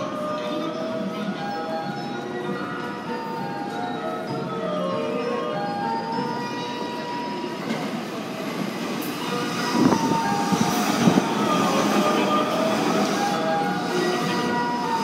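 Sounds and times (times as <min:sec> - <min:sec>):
electric train rumbling past: 0:00.0 - 0:15.0.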